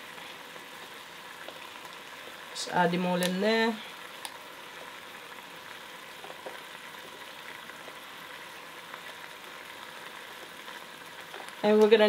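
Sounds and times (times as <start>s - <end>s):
pork sizzling in a pot: 0.0s - 12.0s.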